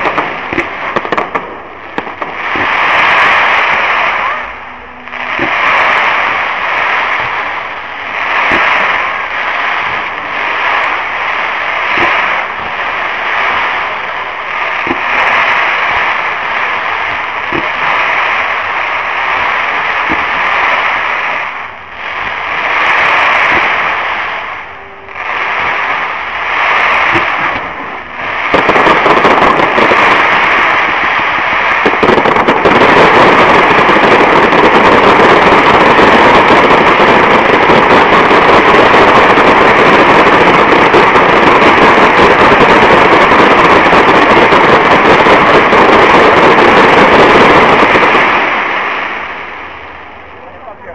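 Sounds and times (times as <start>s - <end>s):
fireworks bursting and crackling: 0.0s - 50.9s.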